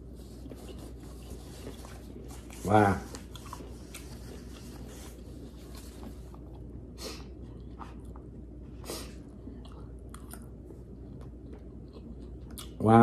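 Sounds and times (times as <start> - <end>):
chewing food: 0.4 - 8.4, 9.2 - 12.8.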